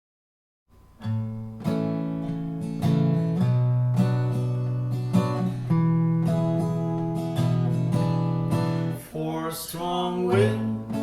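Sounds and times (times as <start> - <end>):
acoustic guitar strumming chords: 0.7 - 11.0.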